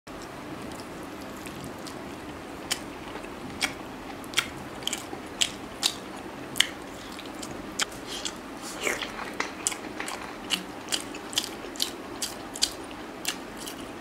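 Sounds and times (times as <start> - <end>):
crunchy chewing: 0.2 - 14.0.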